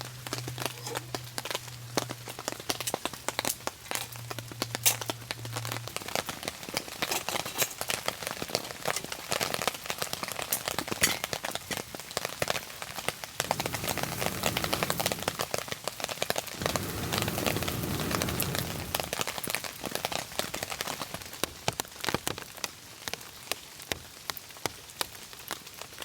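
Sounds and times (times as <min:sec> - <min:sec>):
rain pattering: 0:00.0 - 0:26.0.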